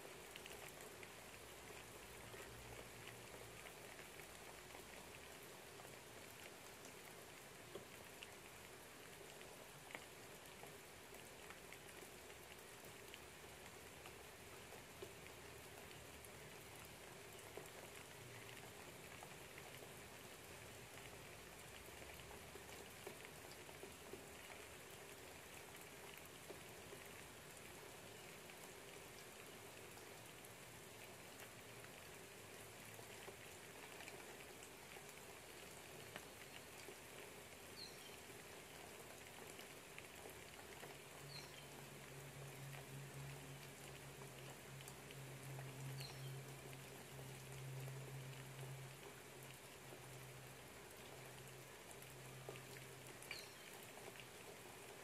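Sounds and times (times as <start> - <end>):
rain hiss and patter: 0.0 - 55.0.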